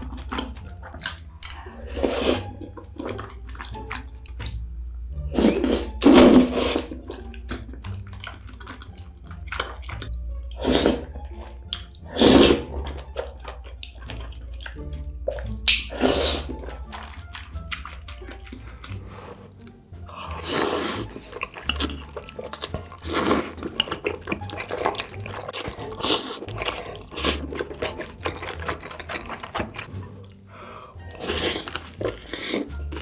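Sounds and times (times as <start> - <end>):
wet slurping: 0.0 - 4.6, 5.2 - 33.0
wet chewing: 0.0 - 33.0.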